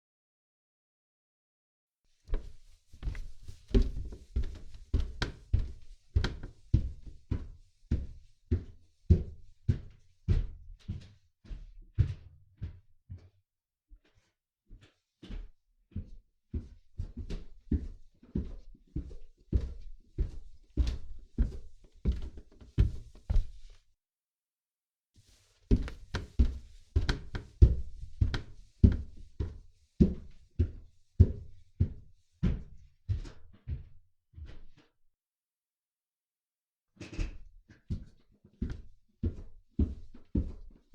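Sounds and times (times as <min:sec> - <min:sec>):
footsteps on indoor staircase: 0:02.3 - 0:23.8, 0:25.2 - 0:34.9, 0:37.4 - 0:40.9.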